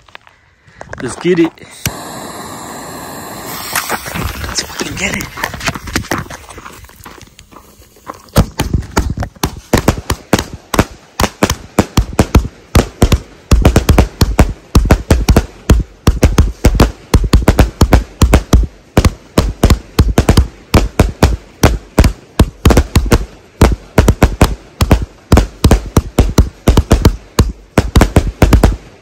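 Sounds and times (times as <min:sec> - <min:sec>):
fireworks bangs: 0:01.8 - 0:06.2, 0:08.3 - 0:29.0.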